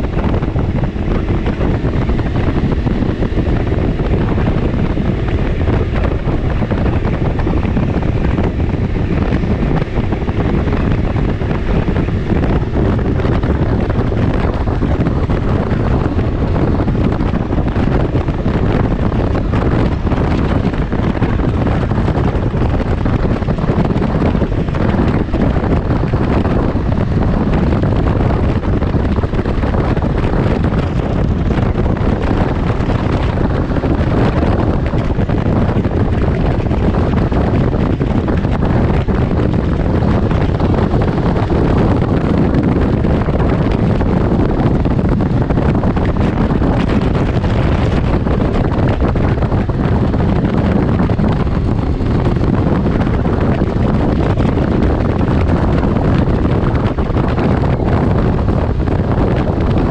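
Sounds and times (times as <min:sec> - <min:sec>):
motorcycle engine: 0:00.0 - 0:57.4
road noise: 0:00.0 - 0:59.9
wind rushing over microphone: 0:00.0 - 0:59.9.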